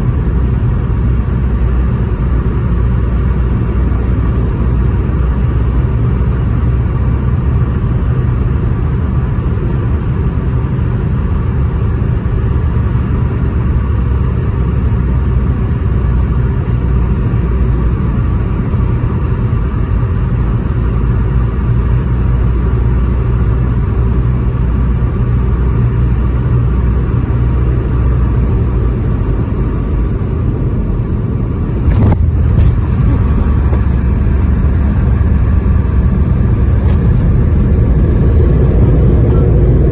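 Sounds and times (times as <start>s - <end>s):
airliner rumble: 0.0s - 39.9s
steady hum: 0.0s - 39.9s.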